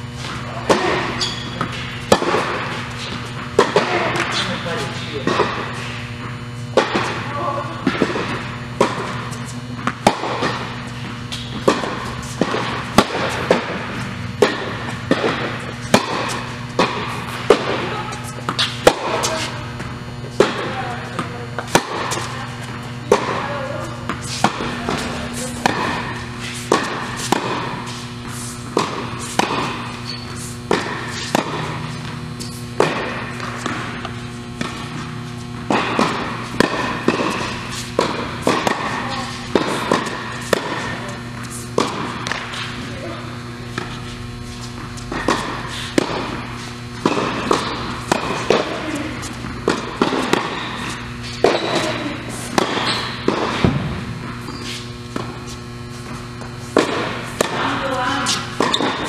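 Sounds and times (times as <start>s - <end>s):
steady electrical hum: 0.0s - 59.0s
rackets hitting tennis balls: 0.2s - 59.0s
tennis balls bouncing on hard court: 0.2s - 59.0s.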